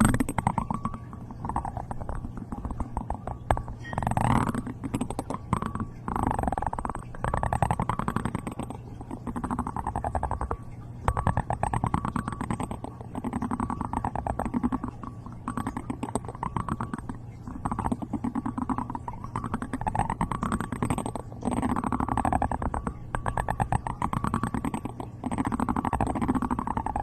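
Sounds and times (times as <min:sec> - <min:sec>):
crackling clicks: 0:00.0 - 0:27.0.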